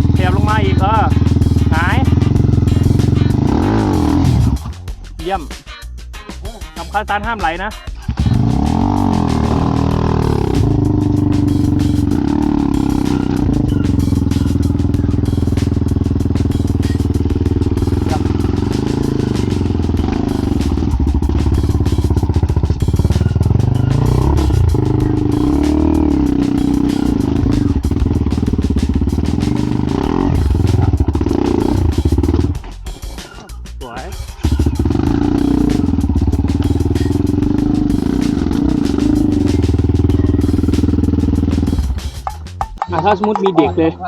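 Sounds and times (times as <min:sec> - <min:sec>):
dirt bike engine revving: 0:00.0 - 0:04.9, 0:08.0 - 0:32.6, 0:34.3 - 0:42.3.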